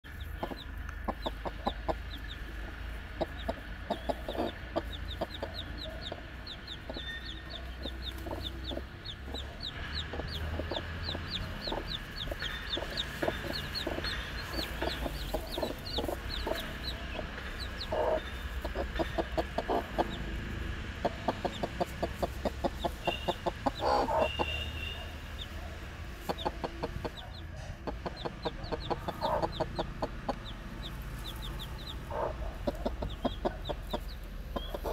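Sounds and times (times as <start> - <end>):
chicks peeping: 0.0 - 34.9
hen clucking: 0.0 - 34.9.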